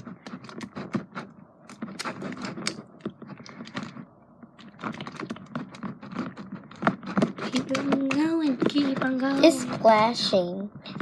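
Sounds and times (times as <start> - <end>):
slime being stirred by hand: 0.0 - 11.0.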